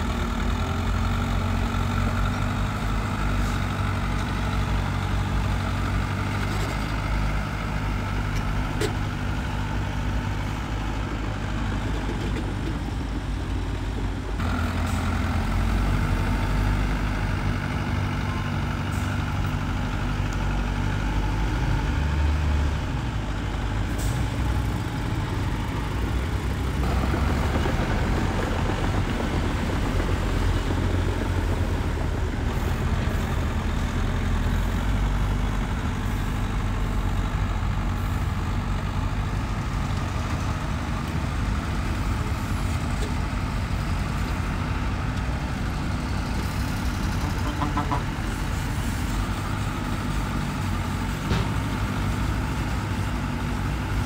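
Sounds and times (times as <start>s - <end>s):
diesel construction machinery engine: 0.0s - 54.0s.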